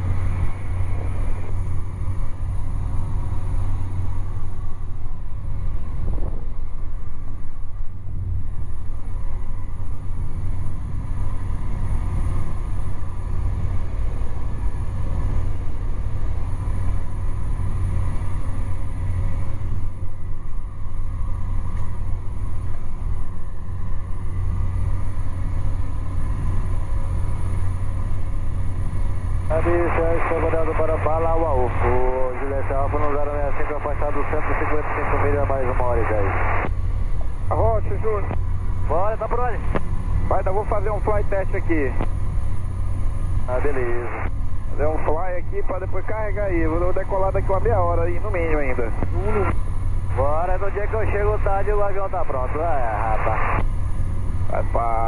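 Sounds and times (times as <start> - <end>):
faint steady whine: 0.0 - 55.0
propeller engine drone: 0.0 - 55.0.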